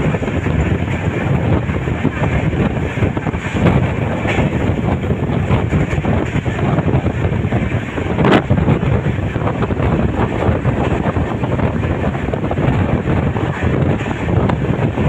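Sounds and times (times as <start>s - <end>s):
train wheels rumbling on track: 0.0s - 15.0s
wind buffeting microphone: 0.0s - 15.0s.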